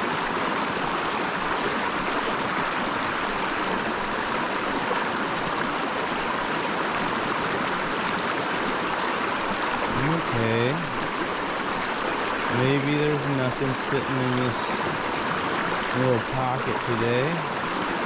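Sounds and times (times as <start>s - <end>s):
mountain creek flowing water: 0.0s - 18.0s.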